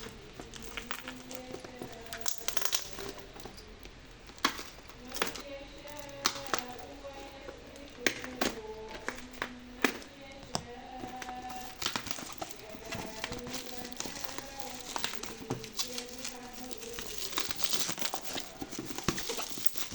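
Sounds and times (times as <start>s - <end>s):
faint background music: 0.0s - 19.9s
plastic packaging clicks and taps: 0.0s - 19.9s.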